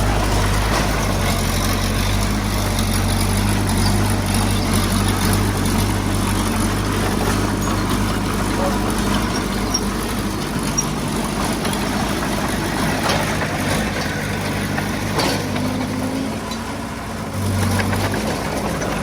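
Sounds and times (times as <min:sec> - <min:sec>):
diesel engine running at low revs: 0:00.0 - 0:19.0.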